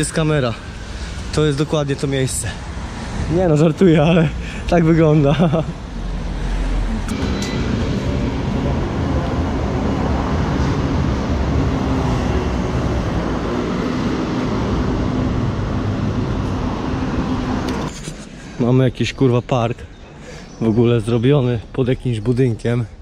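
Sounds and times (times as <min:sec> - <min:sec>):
large vehicle engine rumbling: 0:00.0 - 0:18.6.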